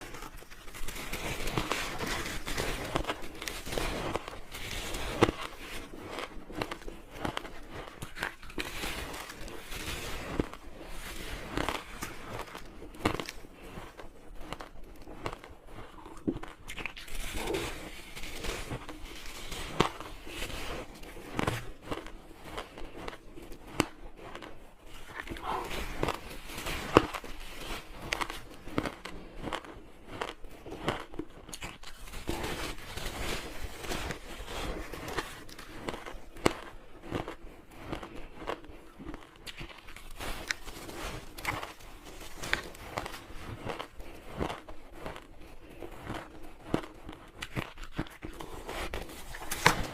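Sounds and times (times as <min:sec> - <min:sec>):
crunching ice: 0:00.0 - 0:49.9.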